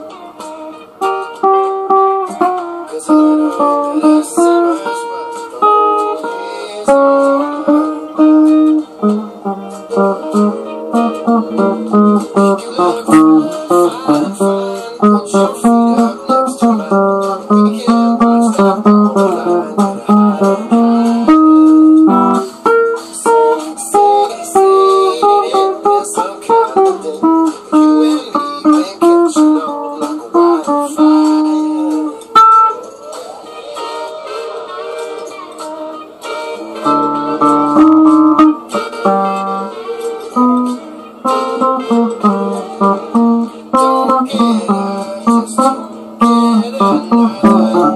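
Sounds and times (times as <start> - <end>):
electric guitar melody: 0.0 - 47.9.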